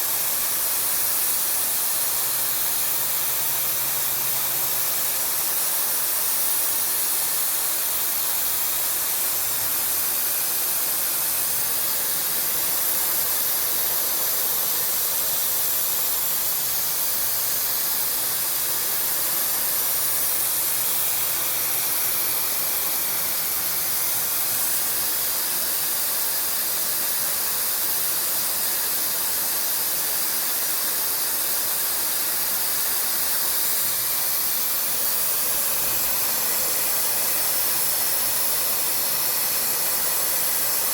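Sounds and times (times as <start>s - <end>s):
machine hissing: 0.0s - 40.9s.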